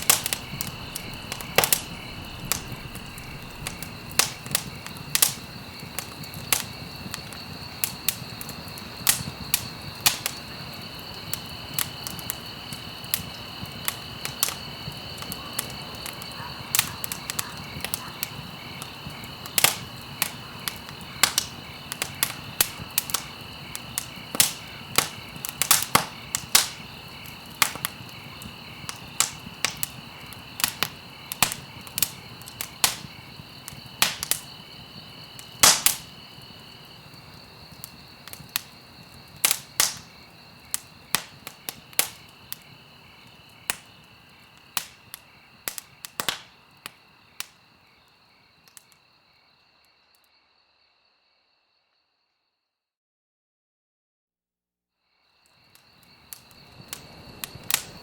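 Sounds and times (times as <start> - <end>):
campfire crackling and popping: 0.0 - 49.0, 55.7 - 58.0.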